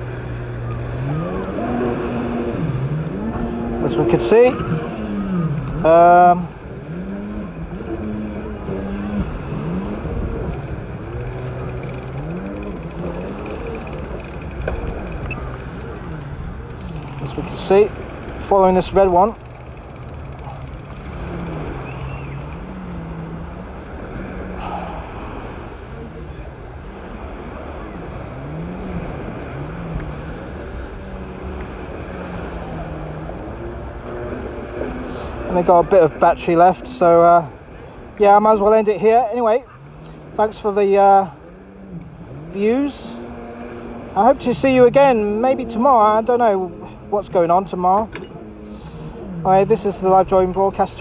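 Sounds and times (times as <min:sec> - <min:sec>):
engine revving: 0:00.0 - 0:25.9, 0:27.2 - 0:37.7, 0:39.6 - 0:51.0
surf: 0:00.0 - 0:51.0.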